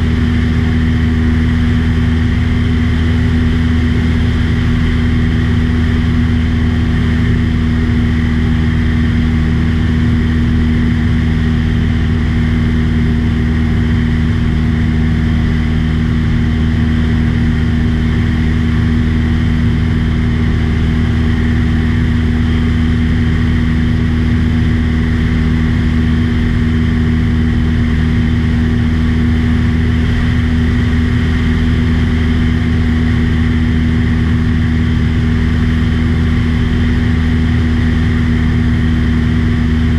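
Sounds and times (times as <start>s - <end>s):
aircraft engine in flight: 0.0s - 39.9s.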